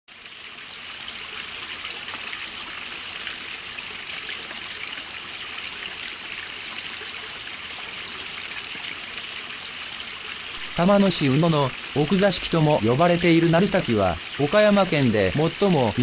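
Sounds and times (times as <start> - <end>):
stream water flowing: 0.1 - 16.0.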